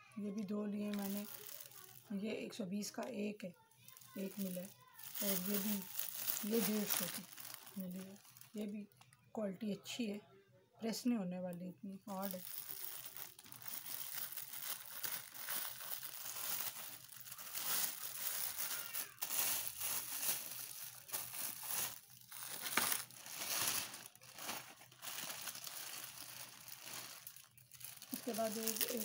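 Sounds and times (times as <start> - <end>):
plastic packaging crinkling: 0.3 - 2.5, 3.4 - 9.0, 12.1 - 29.0.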